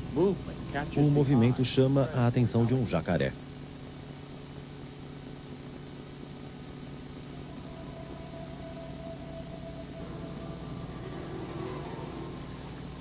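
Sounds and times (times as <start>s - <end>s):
faint held tone: 0.0s - 13.0s
low hum: 0.0s - 13.0s
steady hiss: 0.0s - 13.0s.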